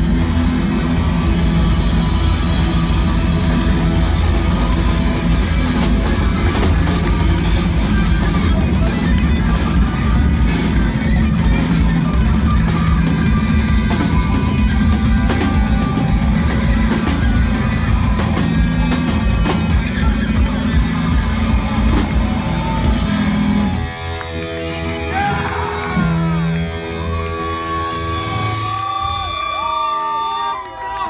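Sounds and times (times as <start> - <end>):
rock band playing live: 0.0 - 29.4.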